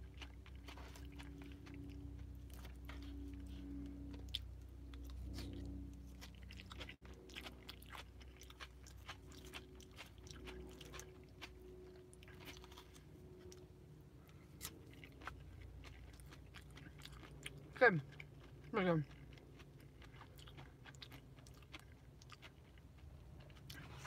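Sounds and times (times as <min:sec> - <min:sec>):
close-up chewing: 0:00.0 - 0:24.0
low steady hum: 0:00.0 - 0:24.0.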